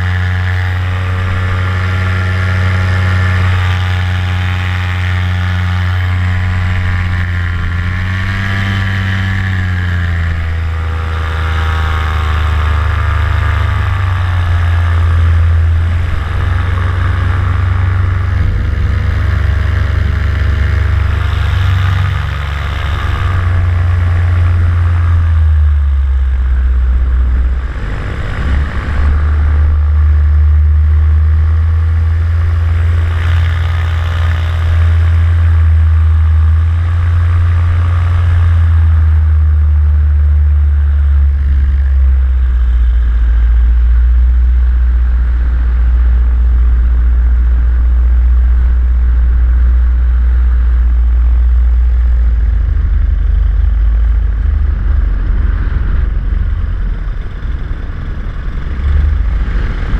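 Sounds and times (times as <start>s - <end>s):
paramotor engine running: 0.0s - 59.9s.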